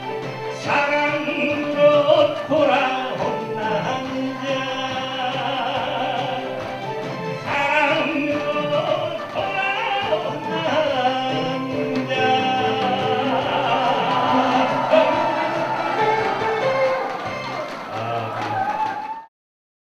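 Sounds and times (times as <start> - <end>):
musical accompaniment: 0.0 - 19.3
man singing into microphone: 0.5 - 16.7.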